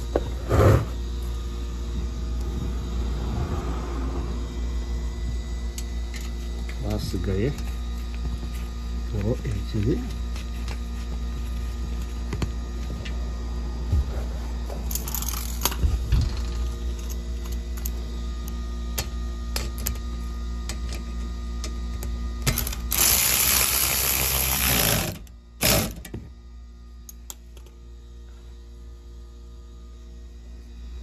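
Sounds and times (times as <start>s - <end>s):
power driver running: 0.0s - 26.3s.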